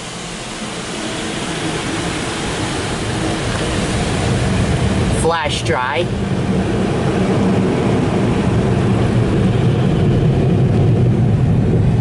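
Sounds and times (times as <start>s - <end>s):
car wash rushing roar: 0.0s - 12.0s.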